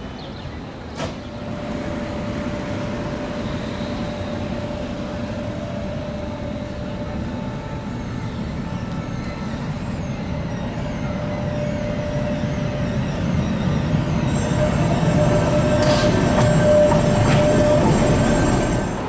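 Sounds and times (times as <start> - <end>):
tram wheels rumbling: 0.0 - 19.0
steady whine: 0.7 - 19.0.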